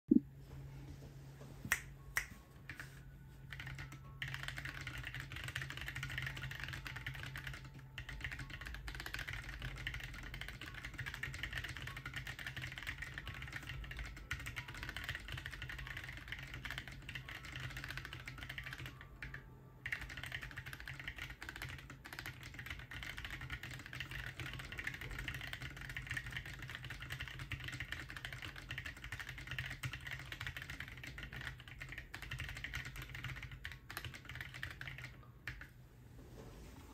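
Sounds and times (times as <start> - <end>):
fast typing on keyboard: 2.7 - 35.7.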